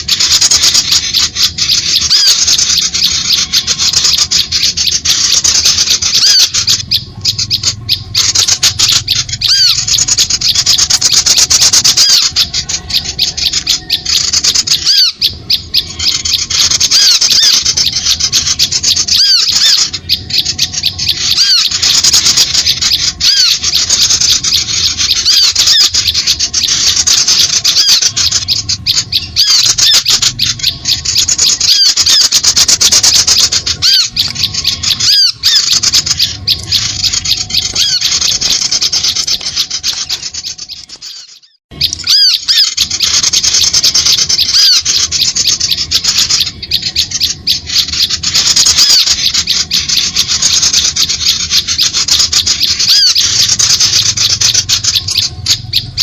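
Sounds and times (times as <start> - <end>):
small birds chattering and chirping: 0.0 - 56.0.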